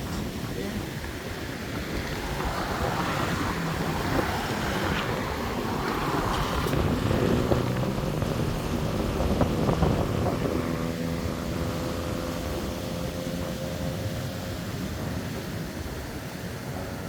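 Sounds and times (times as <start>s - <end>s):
engine hum: 0.0s - 17.0s
wind and road noise: 0.0s - 17.0s.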